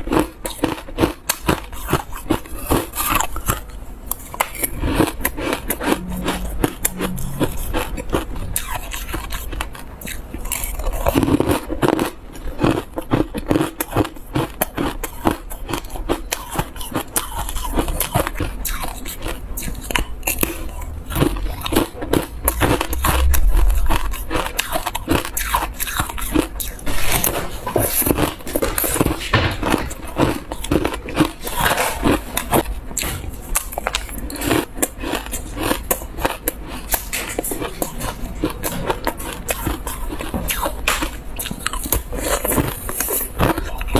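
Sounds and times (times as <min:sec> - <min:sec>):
ice crunching being chewed: 0:00.0 - 0:43.9.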